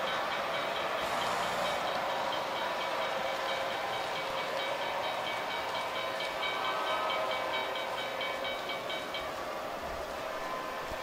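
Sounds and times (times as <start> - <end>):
model trains whirring: 0.0 - 11.0.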